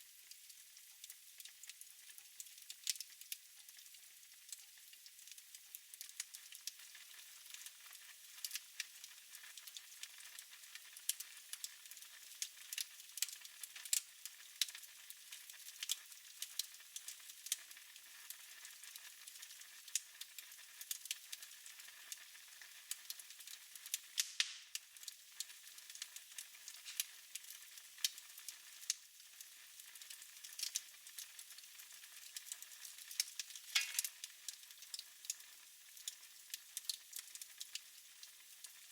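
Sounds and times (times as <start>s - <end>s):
wood fire crackling: 1.0s - 3.9s, 4.5s - 5.4s, 6.0s - 38.8s.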